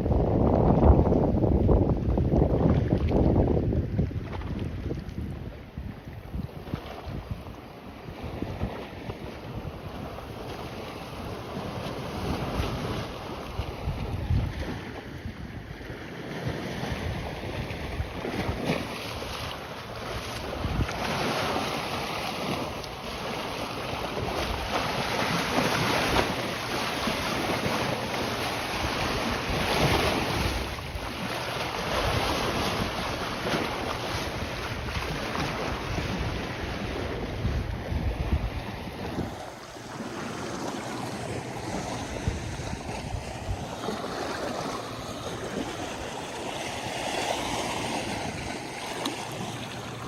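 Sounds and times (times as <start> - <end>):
waves washing onto shore: 0.0 - 50.0
wind buffeting microphone: 0.0 - 50.0.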